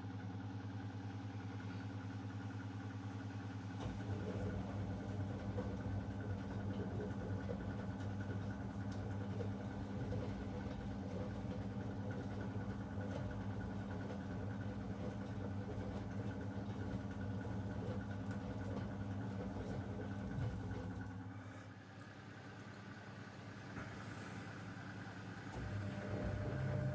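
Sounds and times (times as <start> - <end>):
washing machine motor hum: 3.7 - 22.7, 23.3 - 26.9.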